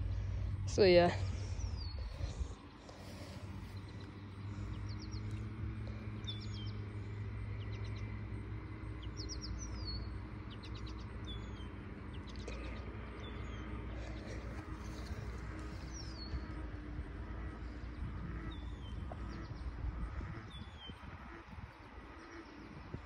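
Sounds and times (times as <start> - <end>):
birds chirping: 0.0 - 23.0
low steady rumble: 0.0 - 23.0.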